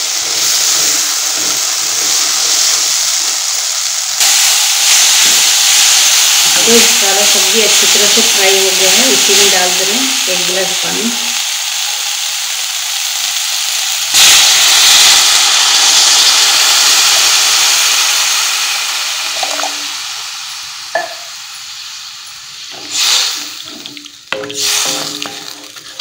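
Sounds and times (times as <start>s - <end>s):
loud hissing sizzle: 0.0s - 26.0s
vegetables sizzling in oil: 0.0s - 26.0s.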